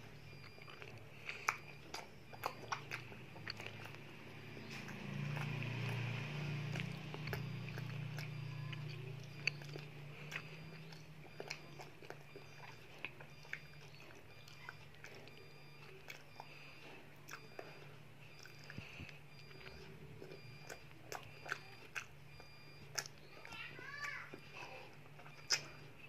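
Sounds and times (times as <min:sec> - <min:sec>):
child chewing with wet smacks: 0:00.0 - 0:26.0
steady low hum: 0:00.0 - 0:26.0.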